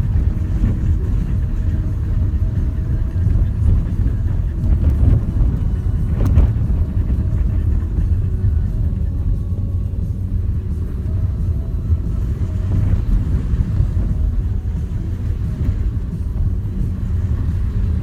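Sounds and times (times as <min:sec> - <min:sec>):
engine and tyres rumbling: 0:00.0 - 0:18.0.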